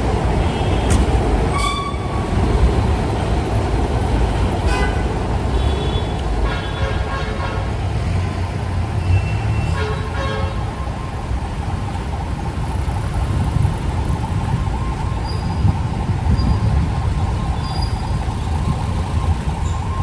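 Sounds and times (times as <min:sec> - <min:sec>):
traffic engines rumbling: 0:00.0 - 0:20.0.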